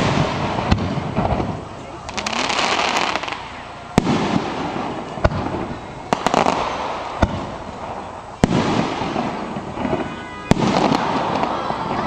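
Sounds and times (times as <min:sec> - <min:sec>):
fireworks bangs: 0:00.0 - 0:12.0
rolling rumble: 0:00.0 - 0:12.0.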